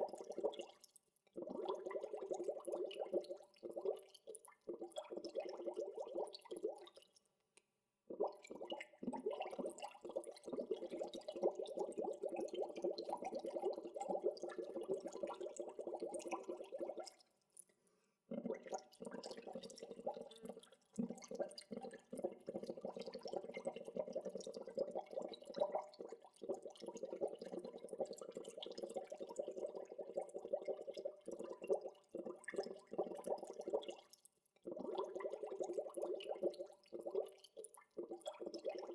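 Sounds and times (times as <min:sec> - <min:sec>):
water bubbling and gurgling: 0:00.0 - 0:00.8, 0:01.4 - 0:07.0, 0:08.1 - 0:17.2, 0:18.3 - 0:38.9.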